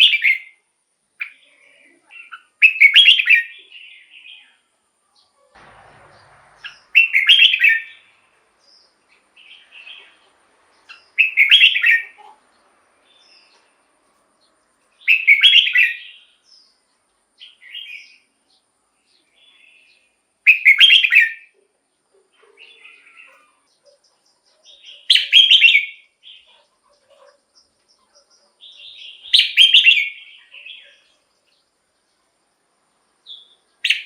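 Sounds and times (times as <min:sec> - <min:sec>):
bird song phrases: 0:00.0 - 0:34.0
soft bird chirps: 0:01.2 - 0:34.0.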